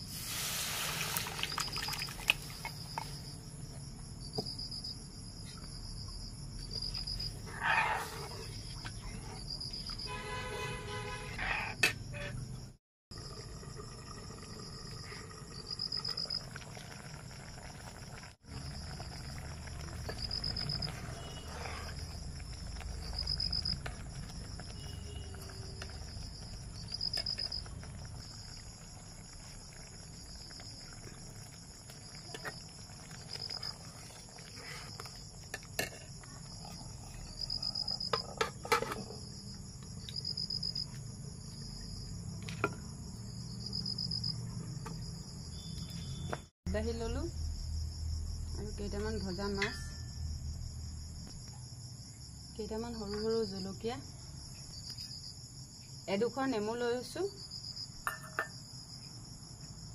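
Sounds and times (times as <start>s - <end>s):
insects trilling: 1.0s - 10.1s, 13.1s - 59.9s.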